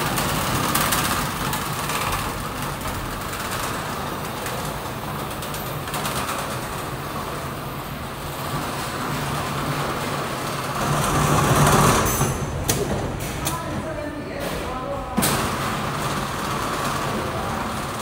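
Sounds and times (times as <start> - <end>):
packing machine mechanical hum: 0.0 - 18.0.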